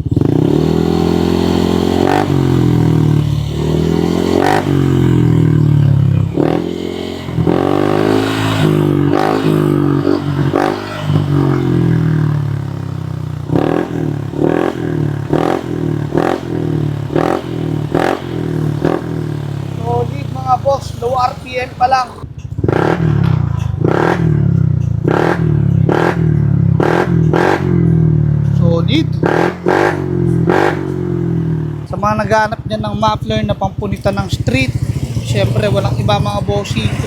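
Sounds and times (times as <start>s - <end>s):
scooter engine revving: 0.0s - 37.0s.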